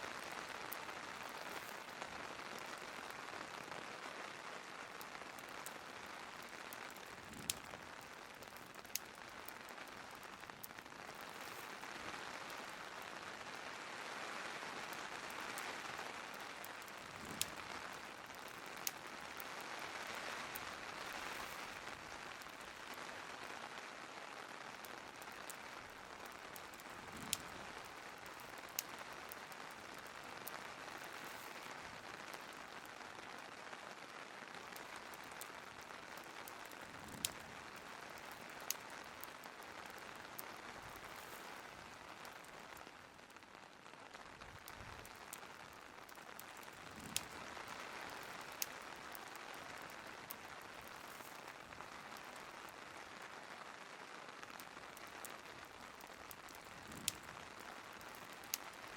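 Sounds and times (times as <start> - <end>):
rain hissing: 0.0 - 58.9
wood fire popping: 0.0 - 58.9.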